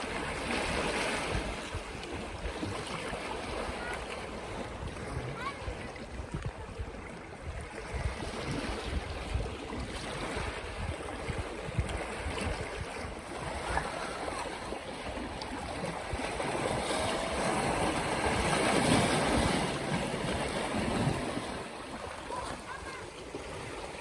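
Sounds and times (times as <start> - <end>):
sea waves washing in: 0.0 - 24.0
wind gusting on microphone: 3.4 - 24.0.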